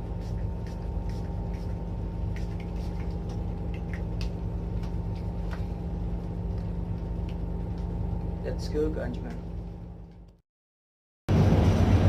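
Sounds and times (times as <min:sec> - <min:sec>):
ship engine drone: 0:00.0 - 0:10.3, 0:11.3 - 0:12.0.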